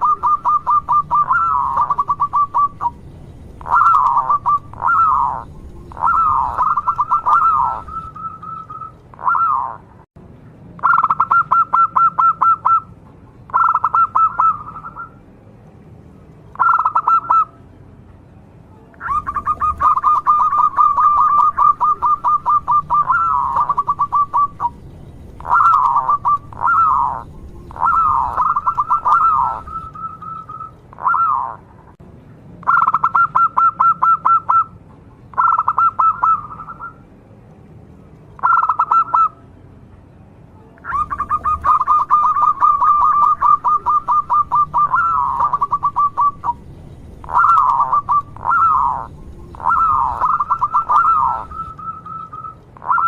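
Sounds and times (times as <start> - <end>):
dove cooing trills: 0.0 - 10.0, 10.8 - 15.2, 16.5 - 17.6, 19.0 - 31.8, 32.6 - 34.7, 35.3 - 37.0, 38.4 - 39.4, 40.8 - 53.0.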